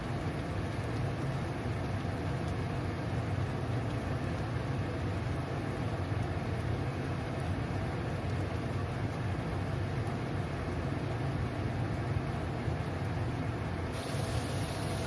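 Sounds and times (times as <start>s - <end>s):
prawns cooking in a wok: 0.0s - 15.0s.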